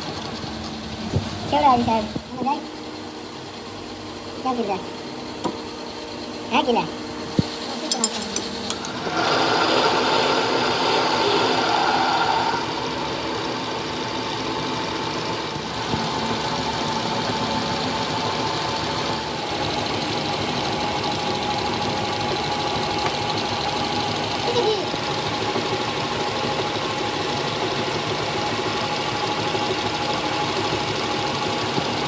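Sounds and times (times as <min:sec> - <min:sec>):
workshop machine running: 0:00.0 - 0:32.0.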